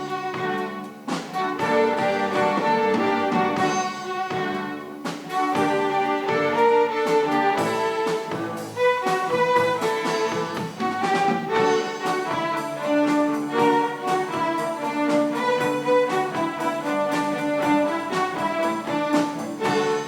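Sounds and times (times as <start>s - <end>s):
string ensemble playing: 0.0s - 20.0s.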